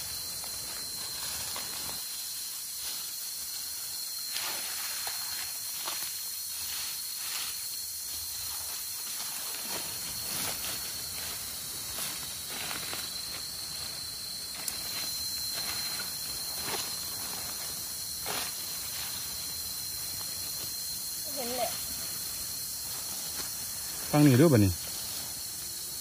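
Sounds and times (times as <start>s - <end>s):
steady high hiss: 0.0s - 26.0s.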